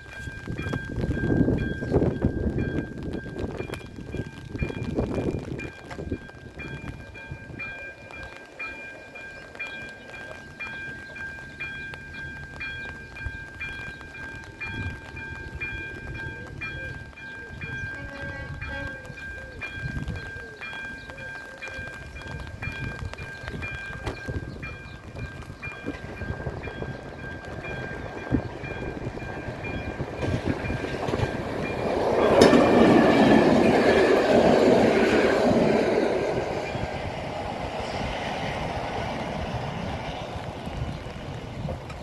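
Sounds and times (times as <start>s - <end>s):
level crossing warning bell: 0.0s - 37.0s
train passing: 0.0s - 42.0s.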